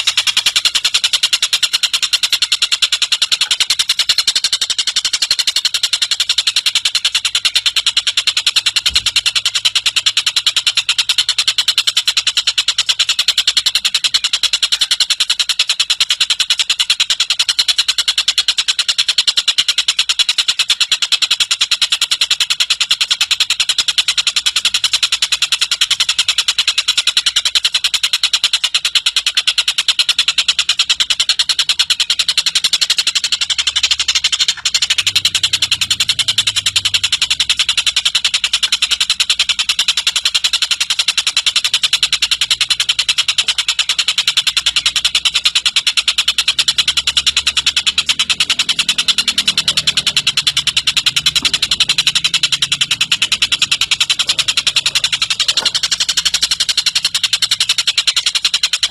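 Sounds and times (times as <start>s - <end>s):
bird rapid chattering call: 0.0s - 58.9s.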